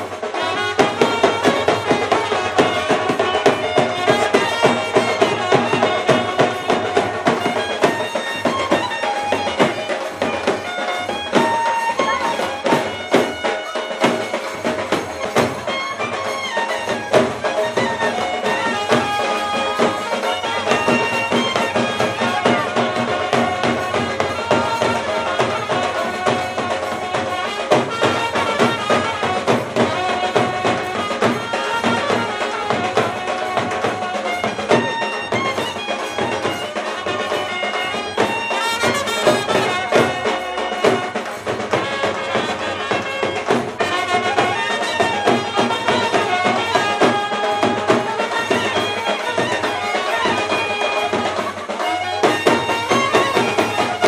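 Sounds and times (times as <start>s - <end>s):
brass band playing: 0.0s - 54.0s
drum beat: 0.0s - 54.0s
trumpet melody: 0.0s - 54.0s.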